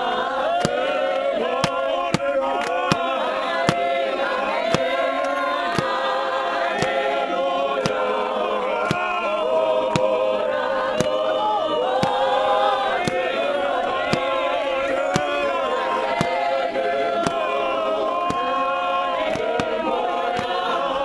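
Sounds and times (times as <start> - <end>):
men singing a hymn in harmony: 0.0 - 21.0.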